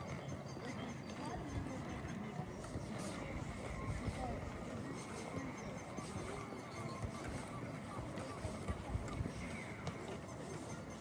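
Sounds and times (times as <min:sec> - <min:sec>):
distant crowd murmur: 0:00.0 - 0:11.0.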